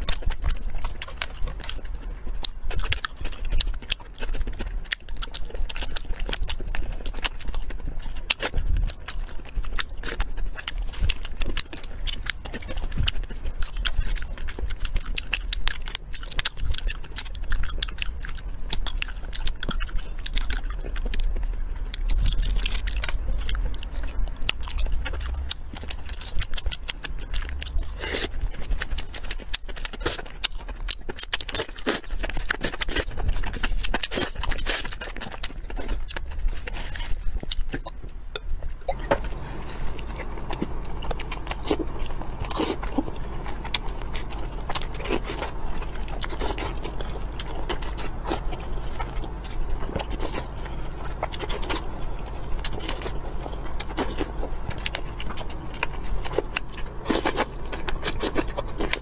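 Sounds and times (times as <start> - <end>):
crunching dried seaweed: 0.0 - 38.1, 39.2 - 59.0
chewing seafood and lettuce: 0.0 - 59.0
steady low hum: 0.0 - 59.0.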